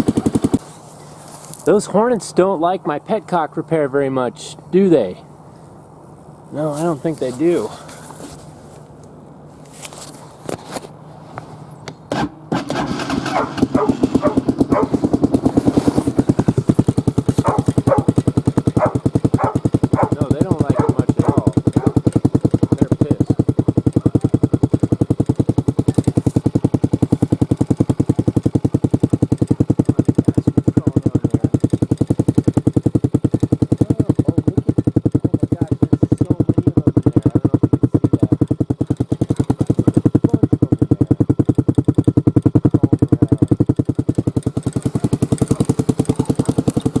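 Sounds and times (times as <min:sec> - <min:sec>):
motorcycle engine idling: 0:00.0 - 0:47.0.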